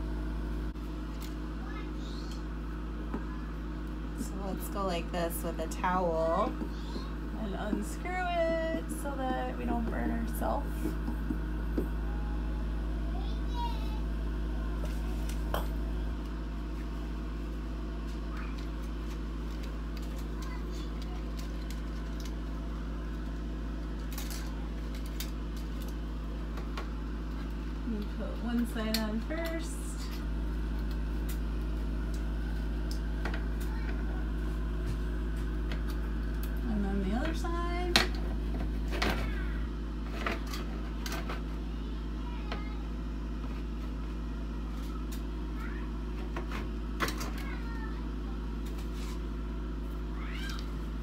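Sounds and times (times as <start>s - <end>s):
exhaust fan humming: 0.0s - 51.0s.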